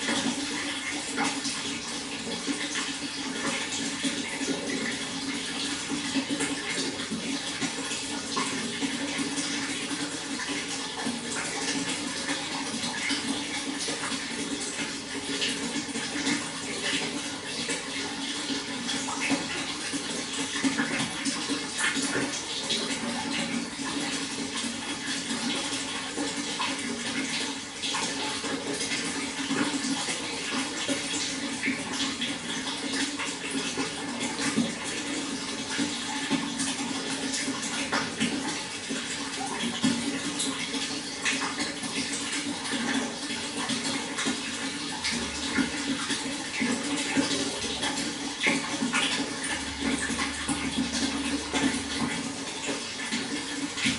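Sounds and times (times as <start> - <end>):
water flowing and splashing: 0.0 - 53.9.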